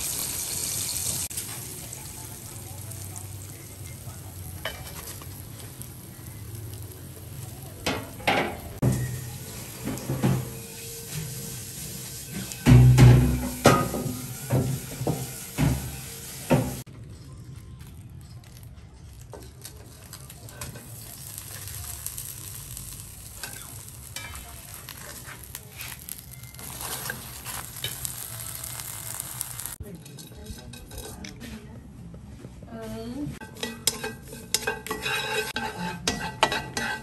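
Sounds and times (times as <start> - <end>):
food sizzling in a pan: 0.0 - 16.9, 20.5 - 29.8, 33.4 - 37.0.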